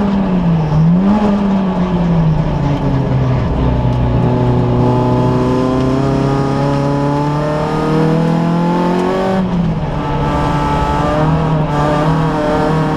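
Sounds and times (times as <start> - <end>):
race car engine revving: 0.0 - 12.9.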